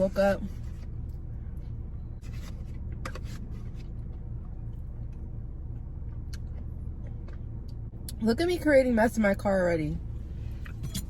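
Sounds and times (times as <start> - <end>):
car engine hum from inside: 0.0 - 11.0.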